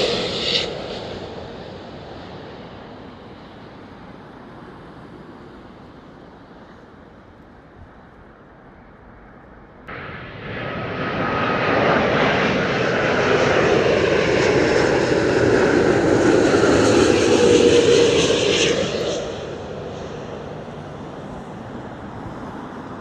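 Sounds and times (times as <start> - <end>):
jet airliner on approach: 0.0 - 23.0.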